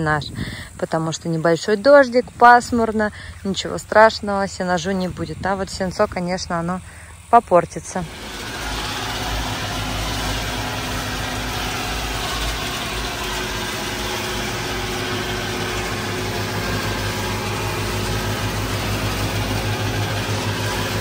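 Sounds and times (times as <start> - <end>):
tractor engine humming: 0.0 - 21.0.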